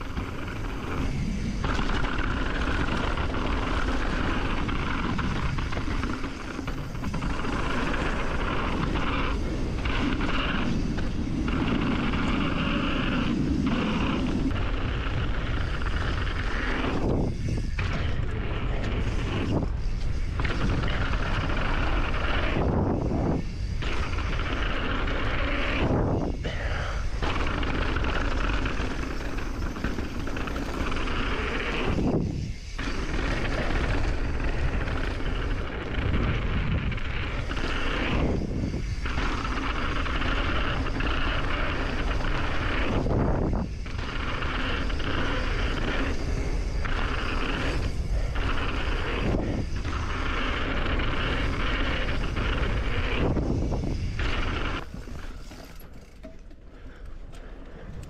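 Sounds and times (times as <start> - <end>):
wind rushing over camera: 0.0 - 56.2
bike tyres rumbling over dirt: 0.0 - 58.0.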